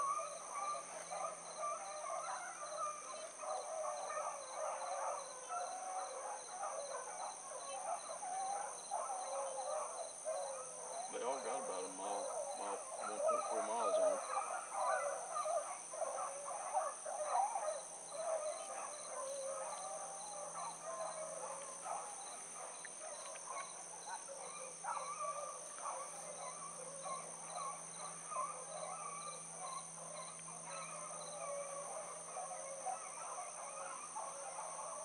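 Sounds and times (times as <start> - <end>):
hounds baying: 0.0 - 35.0.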